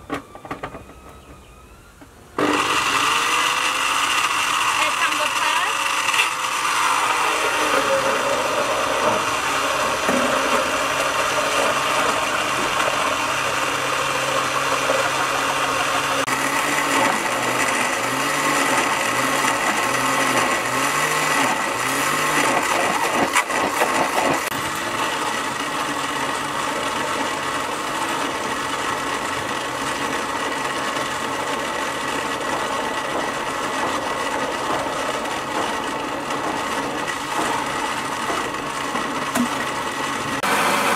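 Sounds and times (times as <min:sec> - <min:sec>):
blender running: 0:02.4 - 0:40.9.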